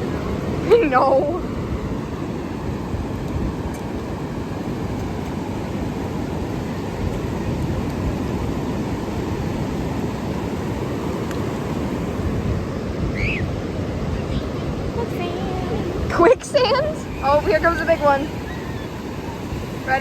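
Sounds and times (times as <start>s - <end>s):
ocean surf: 0.0s - 20.0s
wind buffeting microphone: 0.0s - 20.0s.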